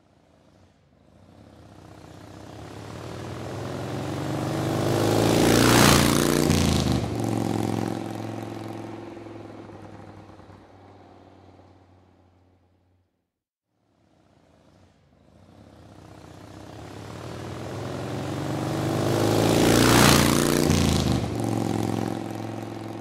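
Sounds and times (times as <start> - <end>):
motorcycle engine passing by: 0.0 - 13.0, 13.9 - 23.0.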